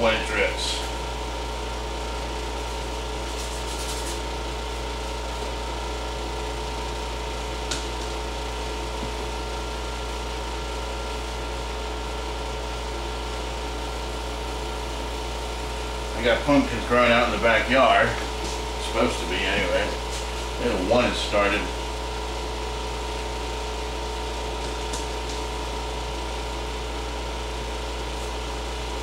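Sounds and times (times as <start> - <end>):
air conditioner humming: 0.0 - 29.0
faint steady whine: 0.0 - 29.0.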